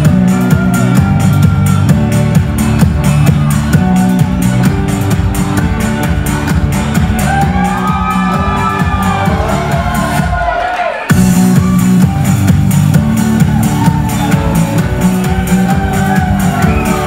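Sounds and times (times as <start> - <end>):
electronic dance music: 0.0 - 17.0.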